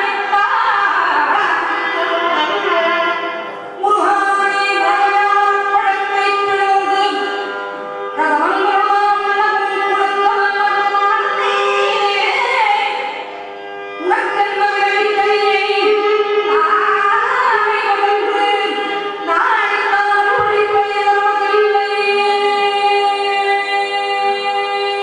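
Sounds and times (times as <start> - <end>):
woman singing devotional song: 0.0 - 7.6, 8.2 - 25.0.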